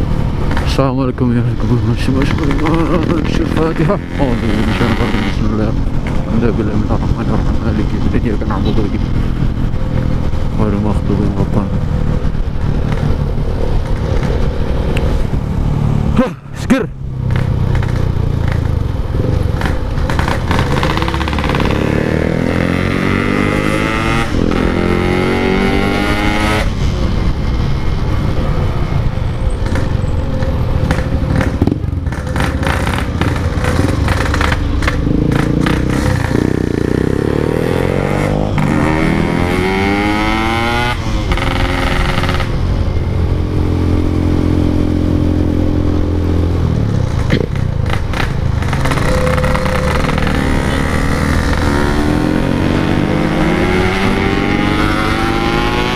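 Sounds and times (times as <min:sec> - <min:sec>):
two-stroke motorcycle engine revving: 0:01.7 - 0:14.0, 0:17.2 - 0:26.8, 0:29.5 - 0:55.9.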